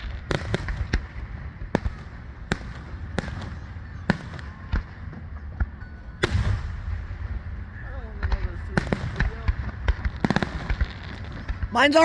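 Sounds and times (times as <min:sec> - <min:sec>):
fireworks bangs: 0:00.0 - 0:05.0, 0:06.2 - 0:12.0.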